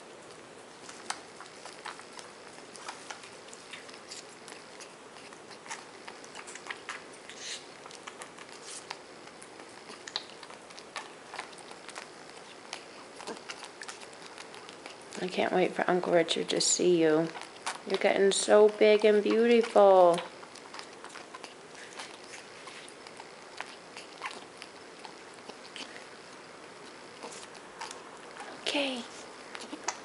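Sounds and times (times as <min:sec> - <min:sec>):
monkey suckling clicks and smacks: 0:00.2 - 0:15.3, 0:17.2 - 0:30.0.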